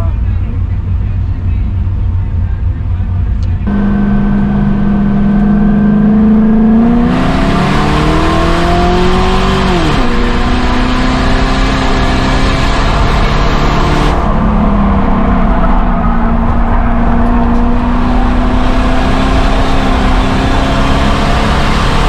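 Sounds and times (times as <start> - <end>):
race car engine: 0.0 - 22.0.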